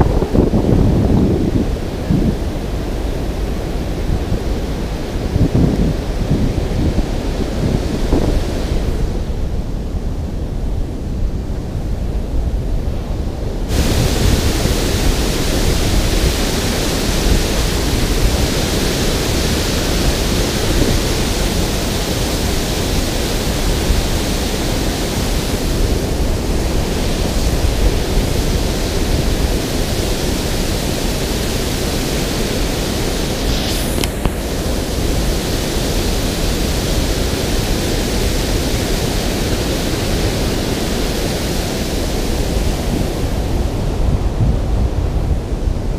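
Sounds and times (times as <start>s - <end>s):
water roaring over dam spillway: 0.0s - 45.9s.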